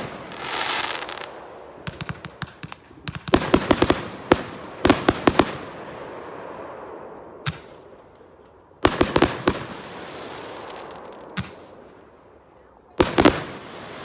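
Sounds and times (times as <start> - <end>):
fireworks bangs with hiss: 0.0 - 12.2, 13.0 - 14.0.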